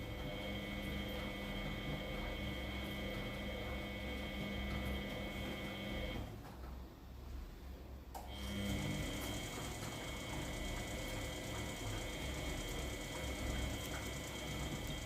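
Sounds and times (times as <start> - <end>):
washing machine motor whine: 0.0 - 6.4, 8.3 - 15.0.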